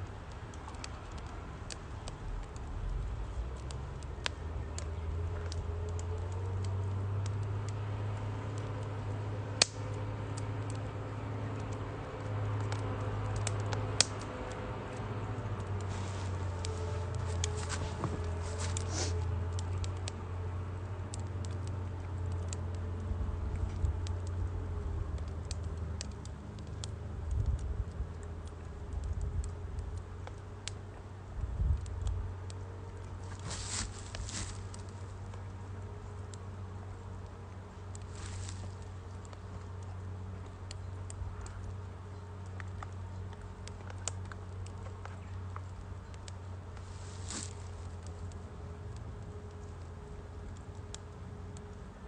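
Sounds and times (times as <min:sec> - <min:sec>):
firewood crackling: 0:00.0 - 0:52.0.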